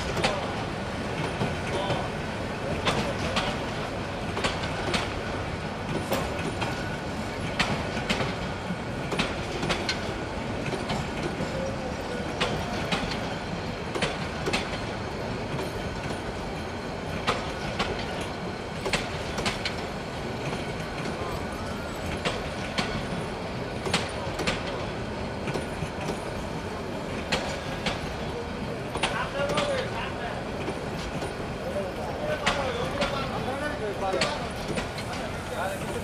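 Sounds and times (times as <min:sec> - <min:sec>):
train coaches rumbling past: 0:00.0 - 0:36.0
wheels clicking over rail joints: 0:02.7 - 0:26.4, 0:27.0 - 0:36.0.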